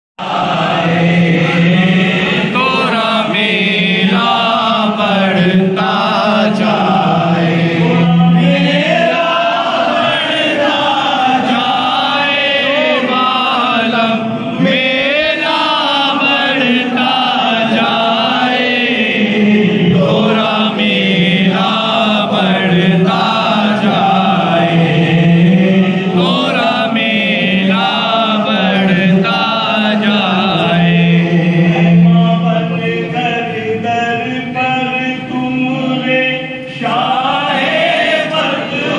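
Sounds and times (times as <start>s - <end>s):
men chanting devotional song: 0.2s - 38.9s.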